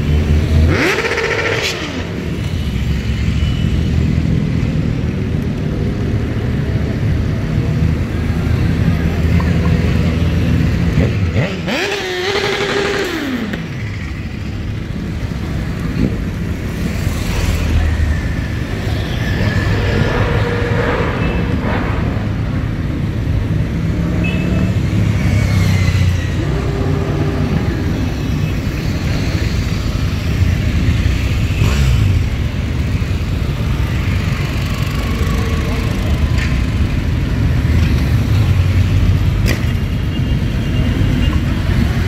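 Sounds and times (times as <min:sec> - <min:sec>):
motorcycles riding past: 0:05.5 - 0:42.0.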